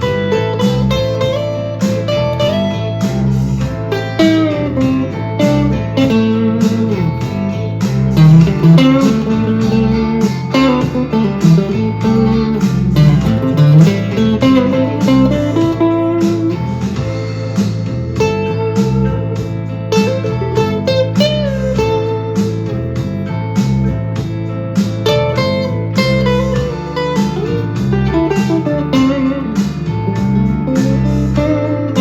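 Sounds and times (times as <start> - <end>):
backing track drum beat: 0.0 - 32.0
electric guitar blues lead: 0.0 - 32.0.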